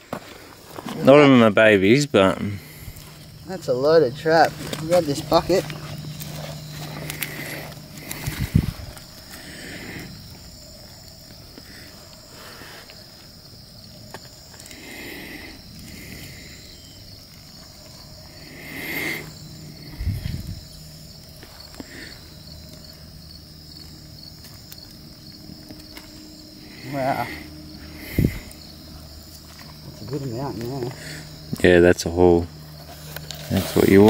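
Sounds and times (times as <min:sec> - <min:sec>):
insects calling in pulsing chorus: 0:00.0 - 0:34.0.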